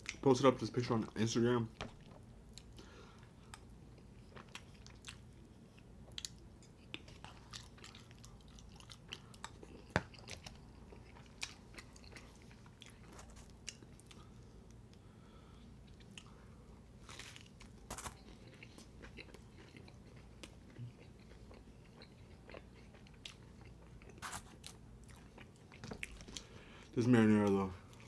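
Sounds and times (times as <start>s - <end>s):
person chewing food: 1.8s - 27.0s.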